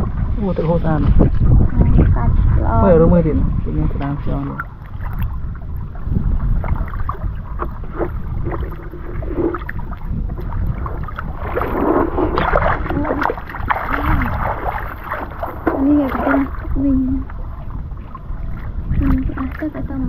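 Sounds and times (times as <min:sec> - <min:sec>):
water sloshing and splashing: 0:00.0 - 0:20.0
wind rumble on microphone: 0:00.0 - 0:20.0.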